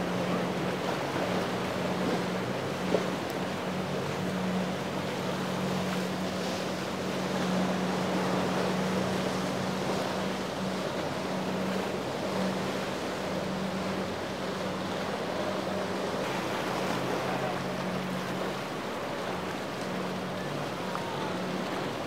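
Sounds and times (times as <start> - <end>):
outboard motor droning: 0.0 - 22.0
rushing surf: 0.0 - 22.0.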